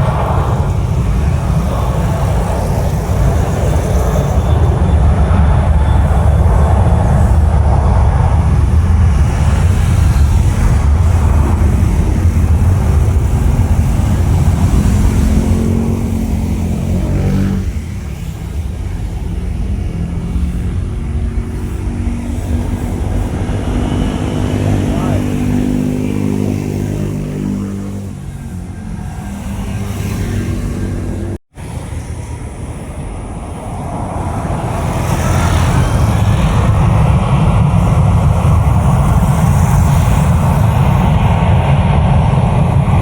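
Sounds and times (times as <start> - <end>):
jet airliner engines rumbling: 0.0 - 43.0.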